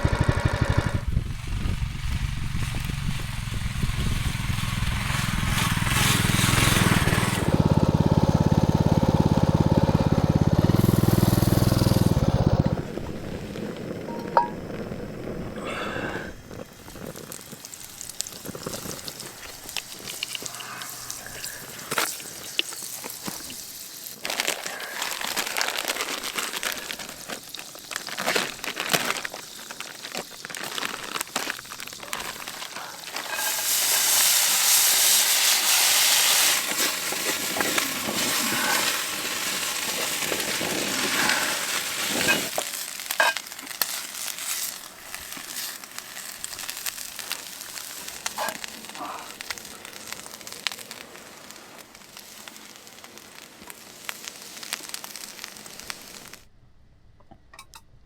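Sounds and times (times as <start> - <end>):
water sizzling on hot stones: 1.1 - 56.5.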